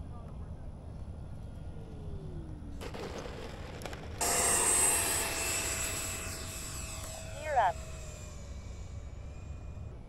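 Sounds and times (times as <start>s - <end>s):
model jet fan whine: 0.5s - 10.0s.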